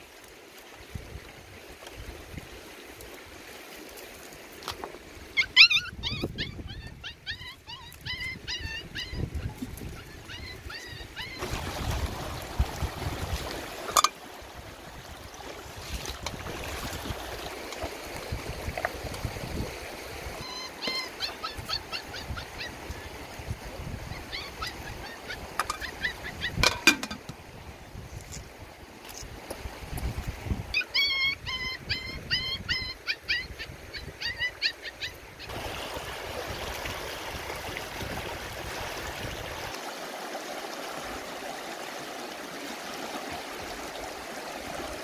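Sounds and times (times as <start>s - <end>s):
water splashing and gurgling: 0.0s - 30.8s, 34.9s - 45.0s.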